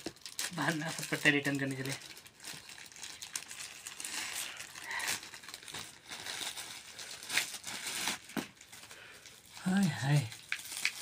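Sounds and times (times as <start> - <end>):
plastic packaging crinkling: 0.0 - 11.0
sharp plastic crackles: 0.0 - 11.0.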